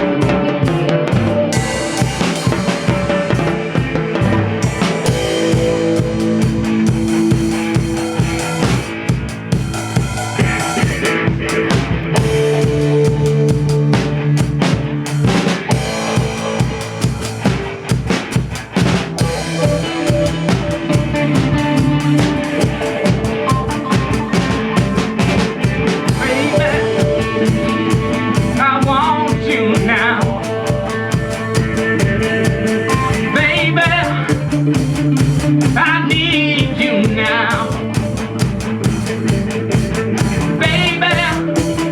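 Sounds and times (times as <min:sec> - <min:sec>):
drum kit beat: 0:00.0 - 0:41.9
rock band playing: 0:00.0 - 0:41.9.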